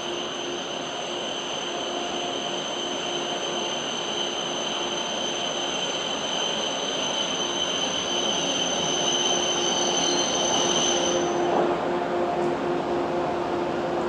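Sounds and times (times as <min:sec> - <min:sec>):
train high-pitched whine: 0:00.0 - 0:14.0.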